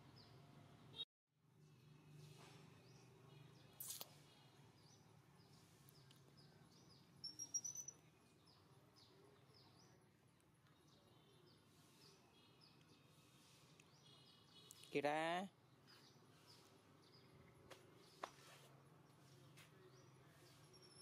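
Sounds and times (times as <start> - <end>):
small birds chirping: 1.6 - 21.0.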